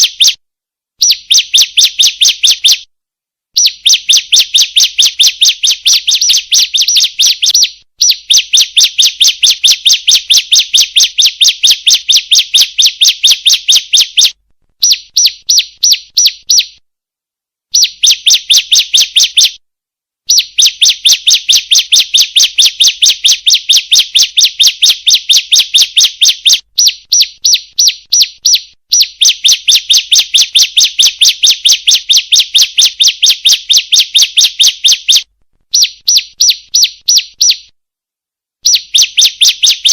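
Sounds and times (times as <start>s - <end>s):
bird high chirps: 0.0s - 0.4s, 1.0s - 2.9s, 3.6s - 16.8s, 17.7s - 19.6s, 20.3s - 37.8s, 38.6s - 39.9s.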